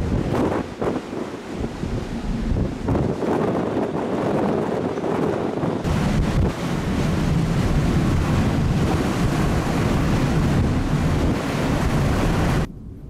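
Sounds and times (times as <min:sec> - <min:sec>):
sea rushing: 0:00.0 - 0:12.7
wind buffeting microphone: 0:00.0 - 0:13.0.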